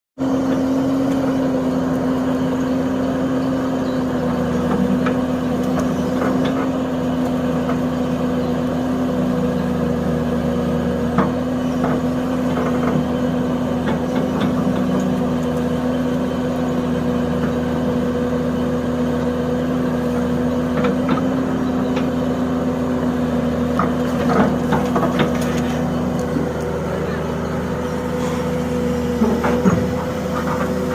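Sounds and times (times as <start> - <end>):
construction machine engine running: 0.2 - 30.9.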